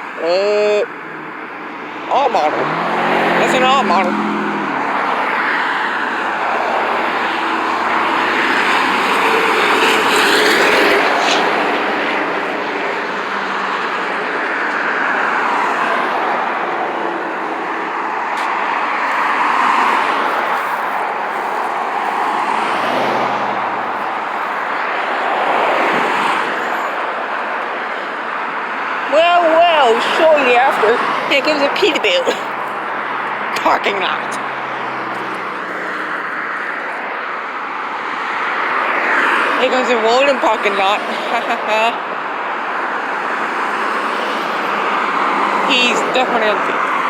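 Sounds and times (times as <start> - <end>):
highway traffic passing: 0.0 - 47.0.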